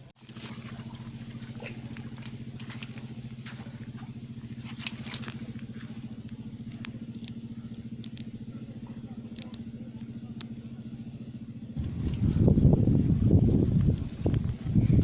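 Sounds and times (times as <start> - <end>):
loud low rumble: 0.0 - 15.0
small engine running: 0.0 - 15.0.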